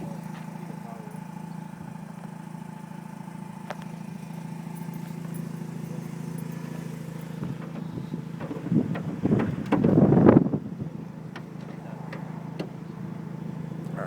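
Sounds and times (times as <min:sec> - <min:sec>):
rotary engine idling: 0:00.0 - 0:14.0.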